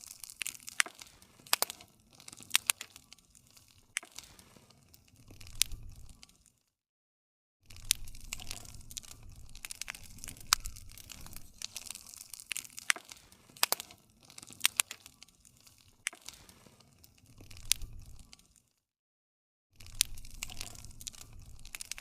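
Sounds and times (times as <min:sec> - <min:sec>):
low rumble of burning: 0:00.0 - 0:06.6, 0:07.6 - 0:18.6, 0:19.8 - 0:22.0
wood fire crackling and popping: 0:00.0 - 0:06.6, 0:07.7 - 0:18.7, 0:19.8 - 0:22.0.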